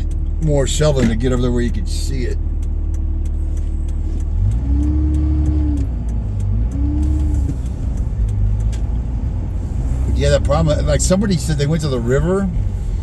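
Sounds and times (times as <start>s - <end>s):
light even ticking: 0.0s - 13.0s
truck engine and road noise: 0.0s - 13.0s.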